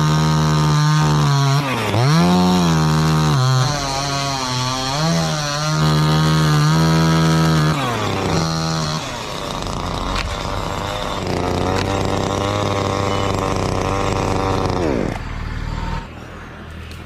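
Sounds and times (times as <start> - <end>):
chainsaw cutting wood: 0.0 - 16.1.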